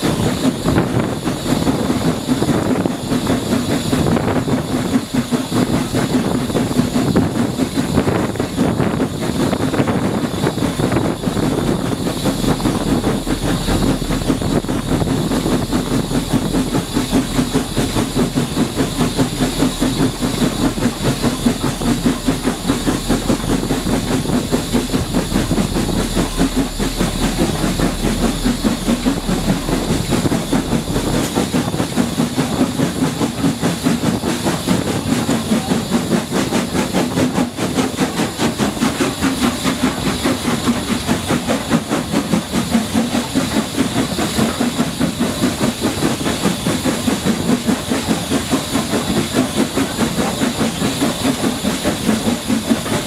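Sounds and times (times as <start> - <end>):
wind buffeting microphone: 0.0 - 43.0
rail noise: 0.0 - 53.0
steam locomotive exhaust beats: 0.0 - 53.0.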